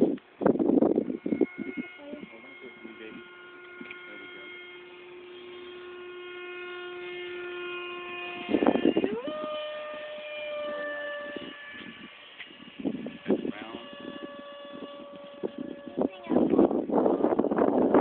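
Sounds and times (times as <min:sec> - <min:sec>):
electric ducted fan whining: 0:00.0 - 0:18.0.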